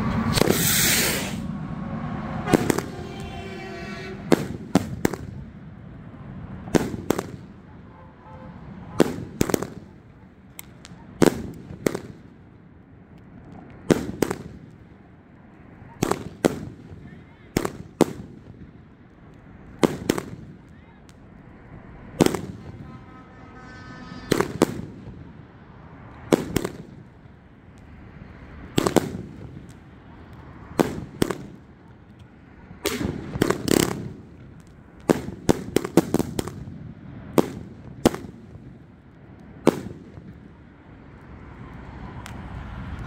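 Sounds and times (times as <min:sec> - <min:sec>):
firework bangs: 0:00.0 - 0:12.7, 0:13.3 - 0:40.8.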